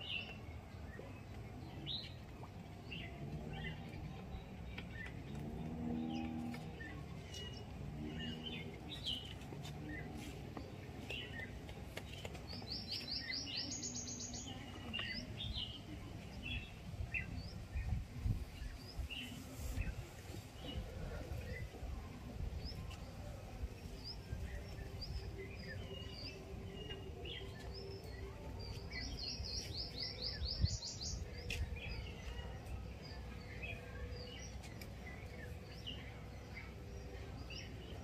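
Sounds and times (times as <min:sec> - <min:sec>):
faint low rumble: 0:00.0 - 0:38.0
small birds chirping: 0:00.0 - 0:38.0.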